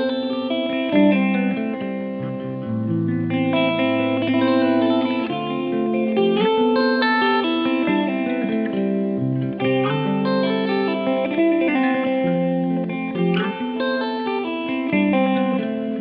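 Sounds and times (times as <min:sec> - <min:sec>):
guitar music with effects: 0:00.0 - 0:16.0.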